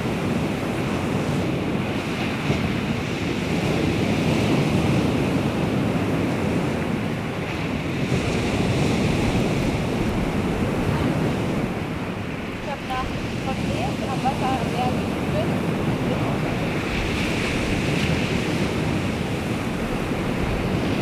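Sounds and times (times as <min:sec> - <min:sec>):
sea waves washing on shore: 0:00.0 - 0:21.0
wind rumbling on microphone: 0:00.0 - 0:21.0.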